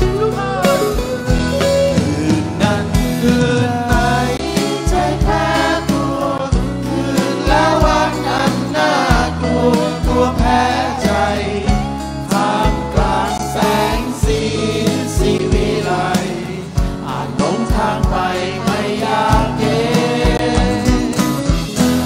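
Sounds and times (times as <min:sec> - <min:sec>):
steady beat: 0:00.0 - 0:21.9
acoustic guitars: 0:00.0 - 0:22.0
bass line: 0:00.0 - 0:22.0
men singing: 0:00.0 - 0:22.0.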